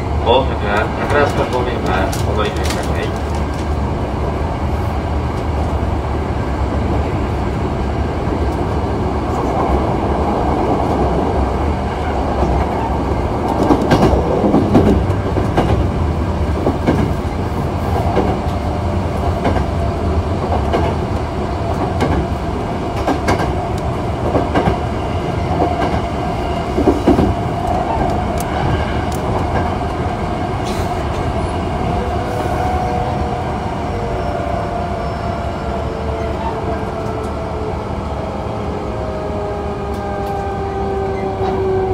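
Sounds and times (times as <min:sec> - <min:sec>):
train wheels rumbling on rail: 0:00.0 - 0:41.9.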